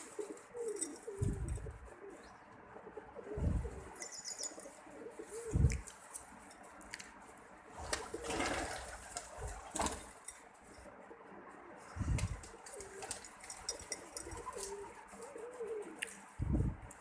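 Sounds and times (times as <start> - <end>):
pigeons cooing: 0.0 - 5.9, 7.7 - 17.0
rustle: 0.0 - 17.0.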